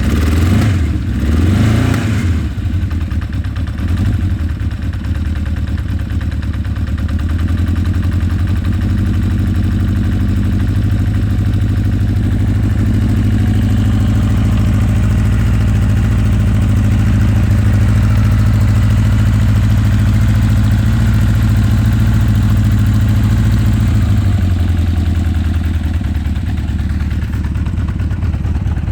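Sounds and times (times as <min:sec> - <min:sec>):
motorcycle engine idling: 0:00.0 - 0:28.9.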